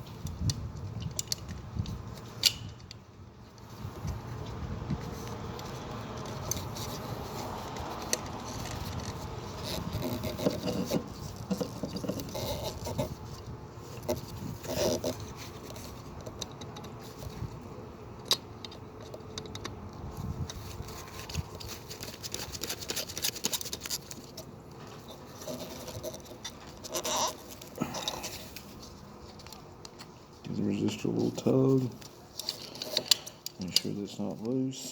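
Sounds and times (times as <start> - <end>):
clicks and rustles of wiring: 0.0 - 34.9.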